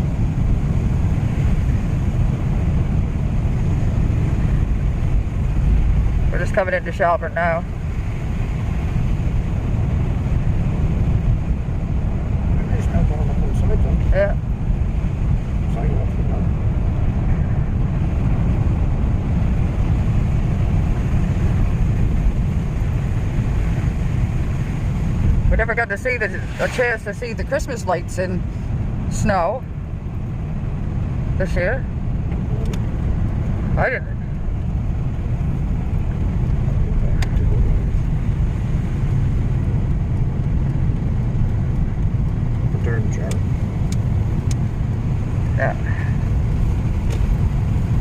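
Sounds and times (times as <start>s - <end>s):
vehicle cabin road rumble: 0.0s - 48.0s.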